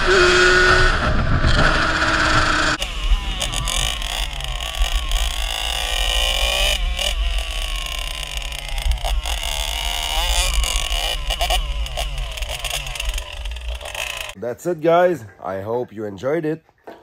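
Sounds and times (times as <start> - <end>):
two-stroke motorbike engine revving: 0.0 - 14.4.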